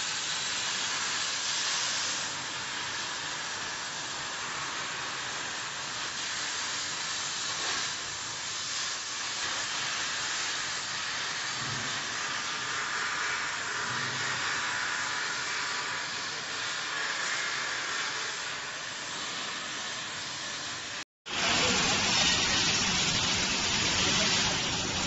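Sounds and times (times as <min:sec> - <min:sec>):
cutting torch hissing: 0:00.0 - 0:25.0.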